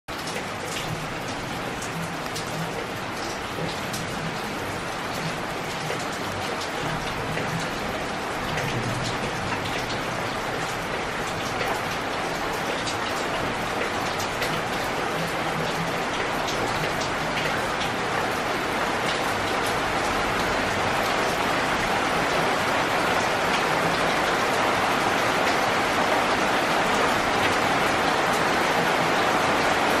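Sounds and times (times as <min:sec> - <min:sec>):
rain on leaves: 0:00.1 - 0:30.0.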